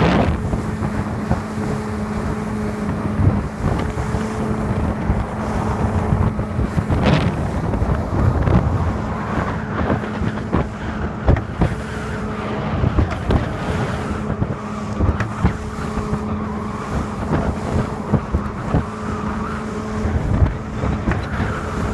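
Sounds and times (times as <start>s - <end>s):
hull knocking on waves: 0.0s - 21.9s
outboard motor running: 0.0s - 21.9s
water and wind rushing: 0.0s - 21.9s.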